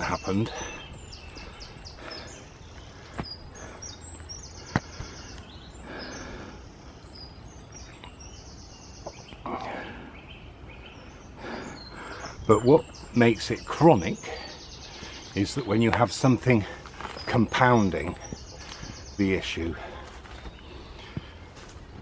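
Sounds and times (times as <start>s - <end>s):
birds singing: 0.0s - 22.0s
low outdoor background: 0.0s - 22.0s.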